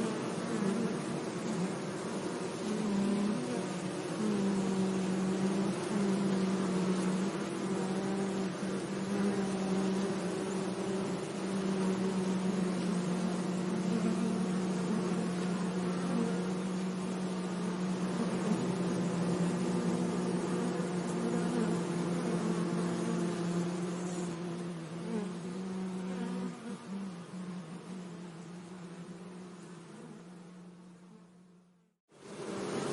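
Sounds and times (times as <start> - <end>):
bees buzzing: 0.0 - 32.9
faint hiss: 0.0 - 32.9.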